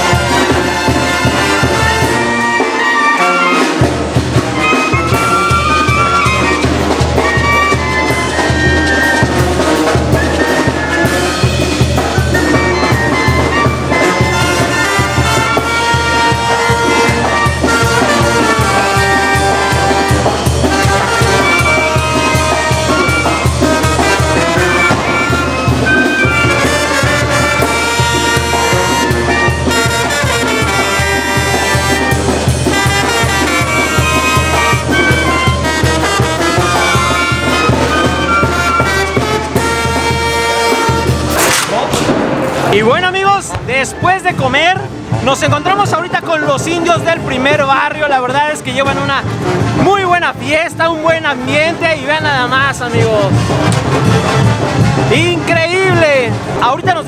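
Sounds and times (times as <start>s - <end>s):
brass music over steady beat: 0.0s - 57.0s.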